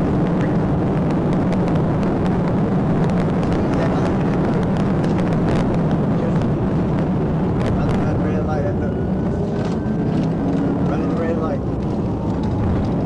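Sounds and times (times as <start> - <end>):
car interior engine and road noise: 0.0 - 13.0.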